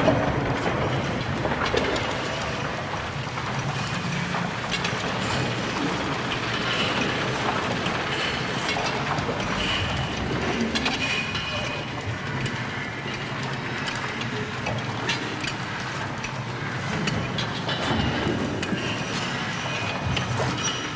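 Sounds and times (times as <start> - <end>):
coaster cars rattling on track: 0.0 - 20.9.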